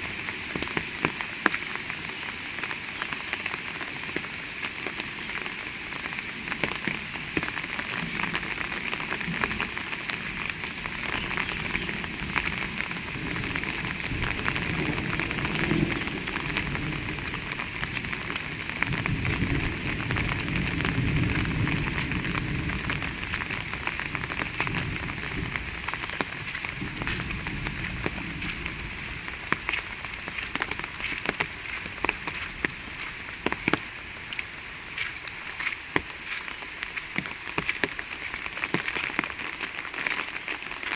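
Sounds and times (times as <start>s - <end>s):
close raindrop hits: 0.0s - 40.9s
heavy rain falling: 0.0s - 40.9s.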